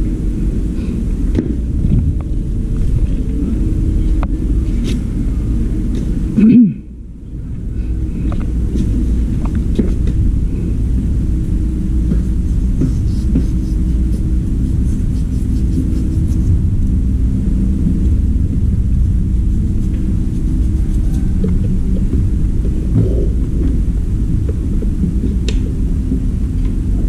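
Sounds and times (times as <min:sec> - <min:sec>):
machinery rumbling: 0:00.0 - 0:27.0.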